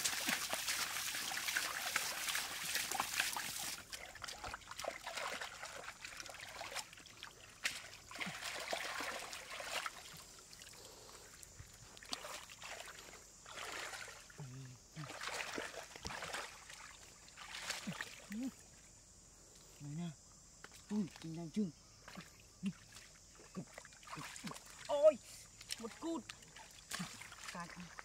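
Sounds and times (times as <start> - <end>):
shallow water splashing and trickling: 0.0 - 18.8, 22.0 - 28.0.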